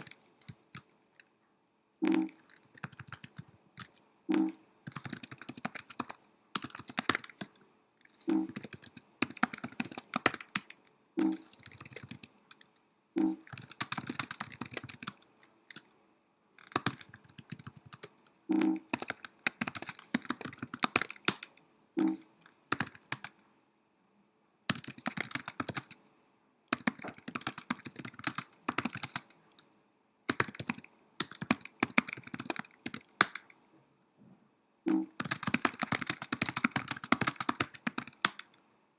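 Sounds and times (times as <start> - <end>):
laptop keyboard typing: 0.0 - 1.4, 2.0 - 16.0, 16.6 - 23.4, 24.7 - 26.1, 26.7 - 29.7, 30.3 - 33.7, 34.9 - 38.6.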